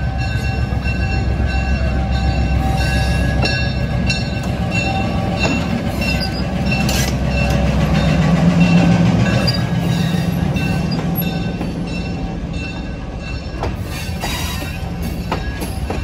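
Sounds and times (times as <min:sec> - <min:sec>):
diesel locomotive engine drone: 0:00.0 - 0:16.0
train rumbling: 0:00.0 - 0:16.0.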